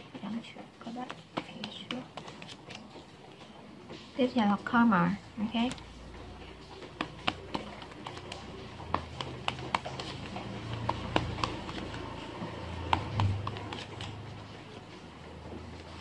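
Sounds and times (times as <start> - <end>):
cards being shuffled: 0.8 - 4.1, 5.4 - 15.0.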